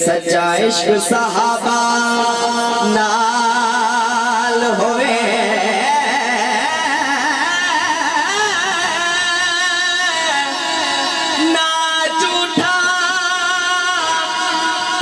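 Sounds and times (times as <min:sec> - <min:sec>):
person singing over public address: 0:00.0 - 0:15.0.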